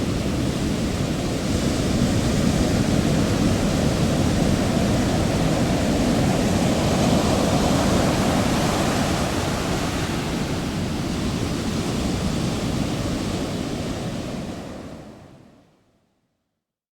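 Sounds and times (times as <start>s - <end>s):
ocean waves breaking: 0.0s - 15.3s.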